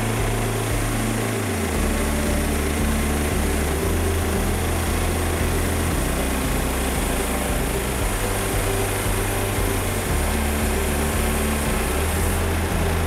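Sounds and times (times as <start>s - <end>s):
sawmill gas engine running: 0.0s - 13.0s.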